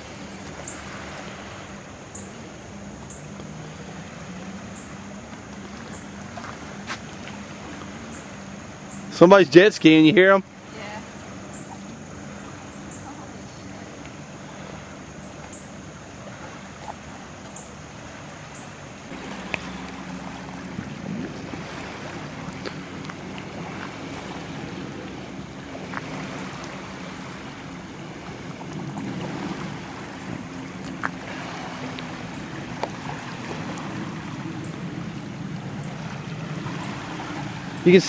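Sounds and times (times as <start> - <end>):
distant jet ski engine droning: 0.0 - 38.0.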